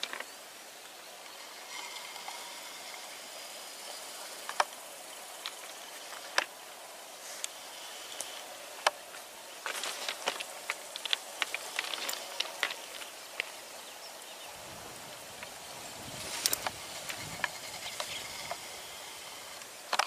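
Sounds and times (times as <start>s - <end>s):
faint high insect tones: 0.0s - 20.0s
steady hiss: 0.0s - 20.0s.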